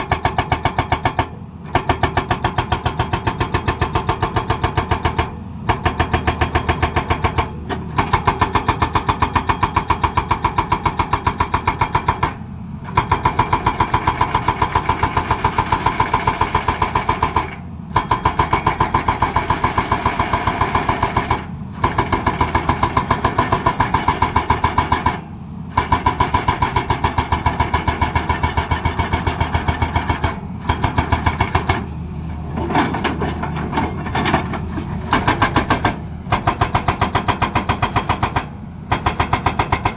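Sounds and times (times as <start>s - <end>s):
hydraulic rock breaker hammering: 0.0s - 31.9s, 32.6s - 39.9s
diesel engine running: 0.0s - 39.9s.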